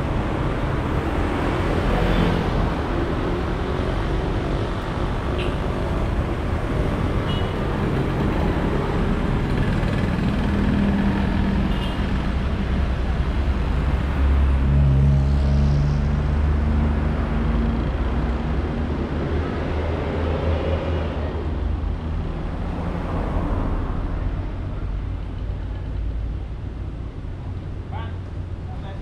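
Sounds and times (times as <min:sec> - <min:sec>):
passing cars and motorbikes: 0:00.0 - 0:29.0.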